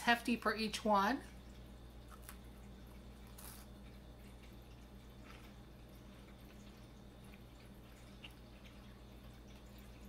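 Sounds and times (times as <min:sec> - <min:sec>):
chewing crunchy wafer: 0:01.3 - 0:10.0.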